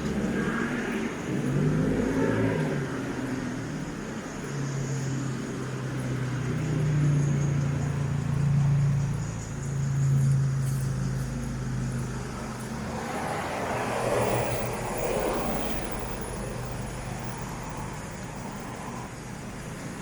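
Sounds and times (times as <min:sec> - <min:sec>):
low engine drone: 0:00.0 - 0:20.0
vehicle passing: 0:00.0 - 0:20.0.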